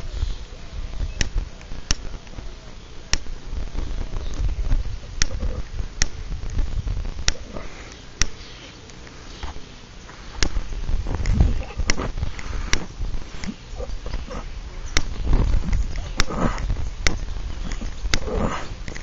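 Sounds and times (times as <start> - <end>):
sharp clicks and knocks: 3.1 - 9.6, 10.3 - 19.0
camera handling rumble: 3.1 - 19.0.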